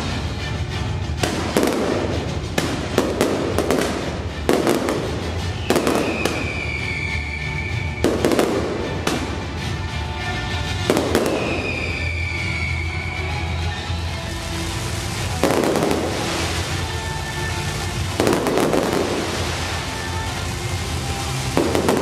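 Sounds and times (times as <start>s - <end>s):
fireworks bangs and crackling: 0.0s - 22.0s
firework whistle: 1.2s - 22.0s.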